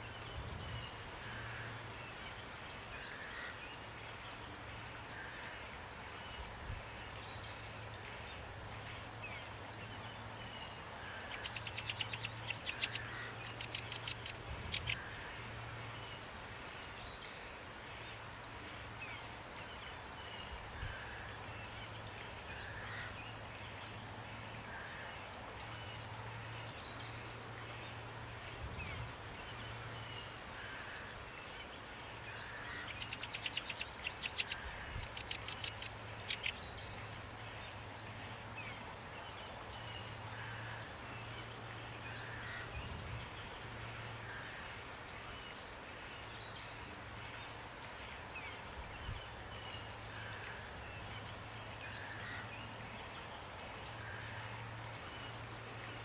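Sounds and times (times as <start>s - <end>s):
steady rain: 0.0s - 56.0s
small birds chirping: 3.0s - 22.0s, 24.7s - 56.0s.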